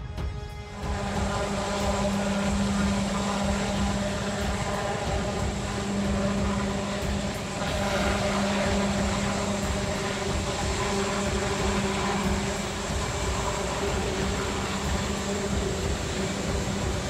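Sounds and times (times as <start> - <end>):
helicopter drone in flight: 0.0 - 17.0.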